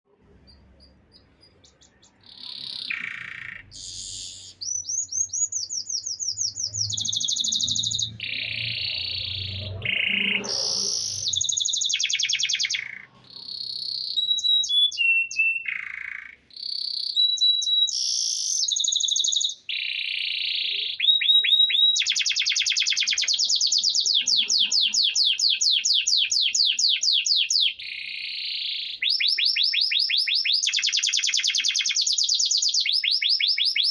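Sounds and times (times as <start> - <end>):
canary singing trills: 0.2 - 33.9.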